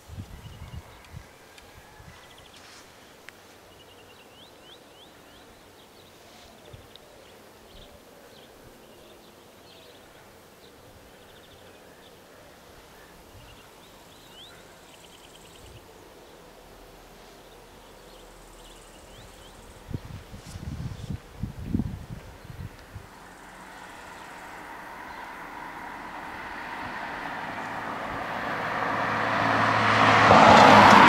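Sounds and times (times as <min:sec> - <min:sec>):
small birds chirping: 0:02.2 - 0:27.9.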